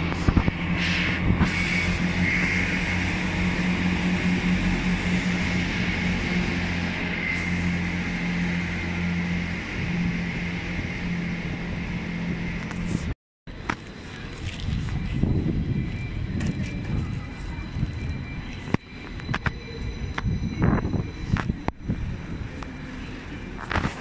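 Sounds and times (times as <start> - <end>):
diesel train engine drone: 0.0 - 24.0
high whine: 0.0 - 24.0.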